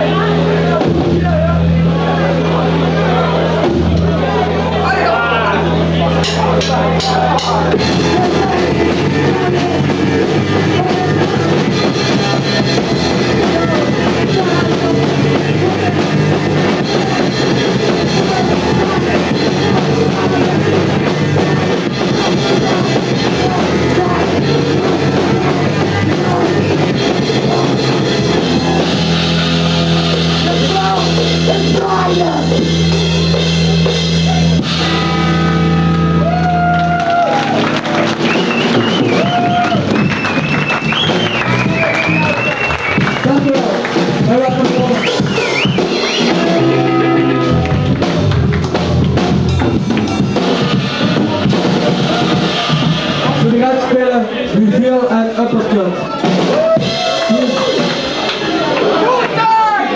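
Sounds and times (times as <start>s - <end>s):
vocals: 0.0s - 35.0s, 40.9s - 48.4s, 50.6s - 59.9s
live rock band playing: 0.0s - 59.9s.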